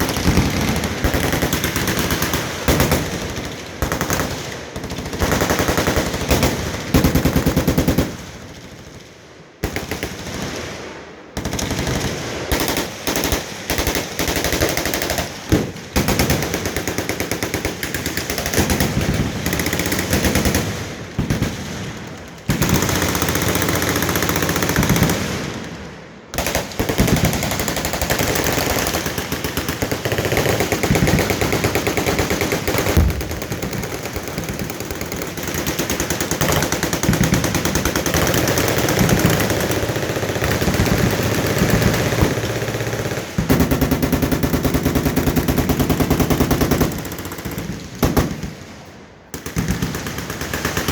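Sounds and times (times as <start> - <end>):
machine guns firing: 0.0 - 10.8, 11.4 - 48.6, 49.3 - 50.9.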